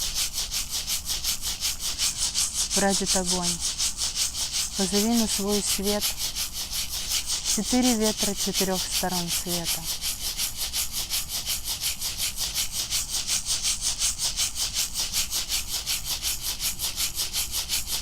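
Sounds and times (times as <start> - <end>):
rattle shaken rhythmically: 0.0 - 18.0.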